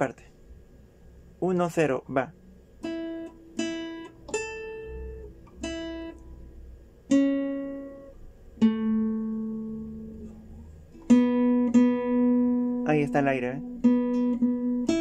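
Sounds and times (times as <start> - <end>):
classical guitar plucked notes: 2.8 - 15.0.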